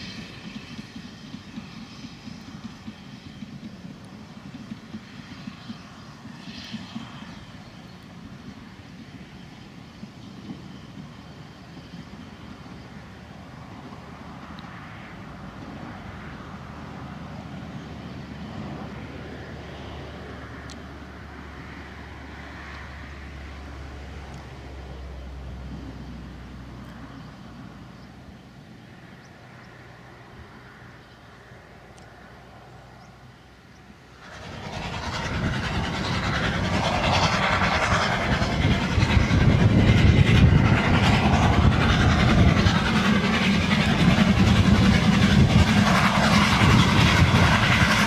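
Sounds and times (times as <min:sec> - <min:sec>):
steam engine exhaust beats: 0:00.0 - 0:29.2, 0:33.7 - 0:48.0
steam train rumbling: 0:00.0 - 0:48.0.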